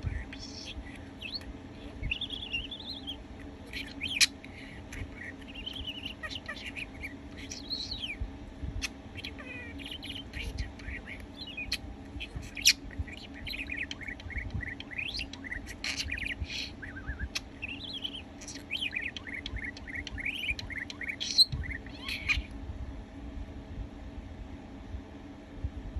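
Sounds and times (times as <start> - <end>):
budgerigar warbling: 0.6 - 8.2, 8.8 - 22.5.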